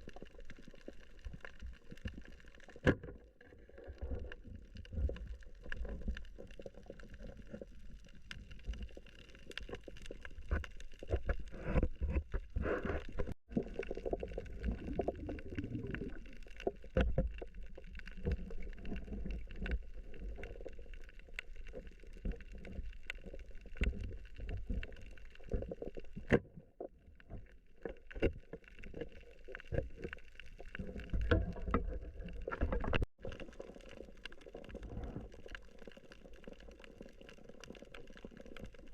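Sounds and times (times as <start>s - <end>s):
underwater rumble of moving water: 0.0s - 38.9s.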